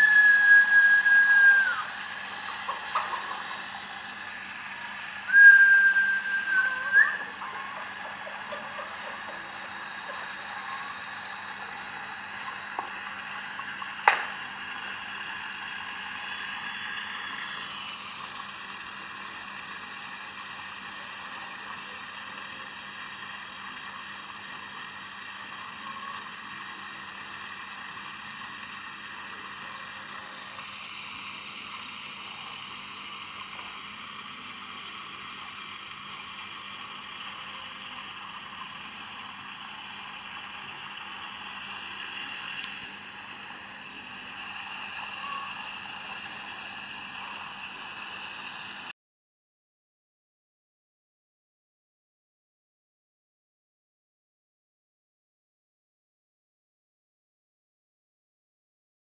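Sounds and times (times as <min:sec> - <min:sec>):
high-pitched outdoor buzzing: 0:00.0 - 0:48.9.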